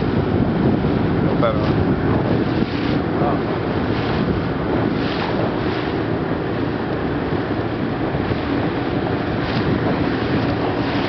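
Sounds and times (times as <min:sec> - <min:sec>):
sea wash: 0:00.0 - 0:11.0
wind on microphone: 0:00.0 - 0:11.0.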